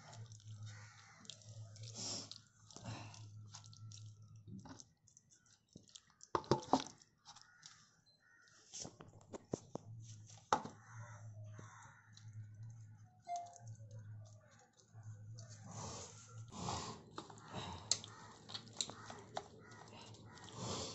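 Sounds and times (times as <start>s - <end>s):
wet squelching of kneaded meat: 0.0s - 9.8s, 13.8s - 20.9s.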